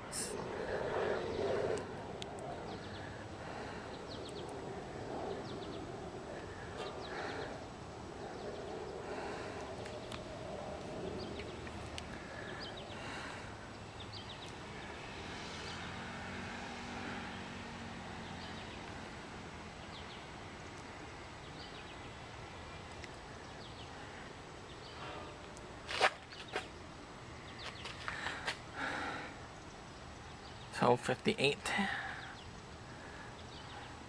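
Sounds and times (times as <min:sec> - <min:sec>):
steady background hiss: 0:00.0 - 0:34.0.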